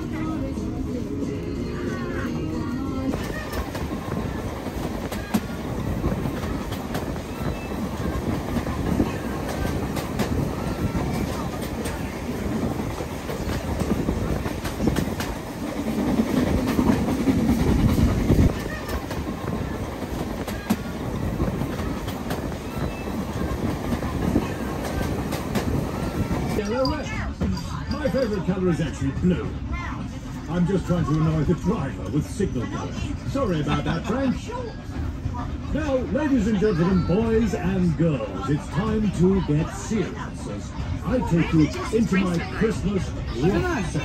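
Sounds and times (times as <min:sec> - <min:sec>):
train rumbling on track: 0:00.0 - 0:44.0.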